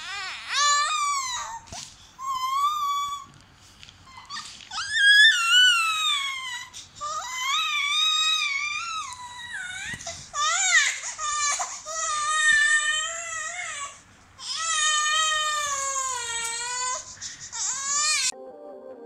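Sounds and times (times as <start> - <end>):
baby squealing and cooing: 0.0 - 3.3, 4.0 - 18.4.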